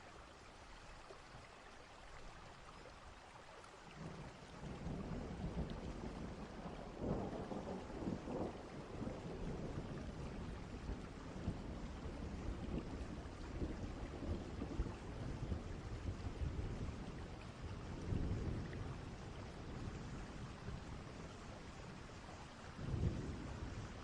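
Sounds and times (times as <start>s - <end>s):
steady rain: 0.0s - 24.0s
low rolling thunder: 4.0s - 24.0s.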